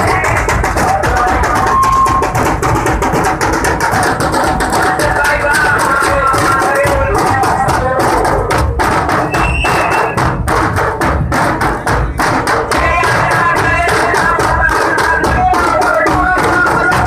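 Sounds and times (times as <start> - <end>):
group drumming: 0.0 - 17.0.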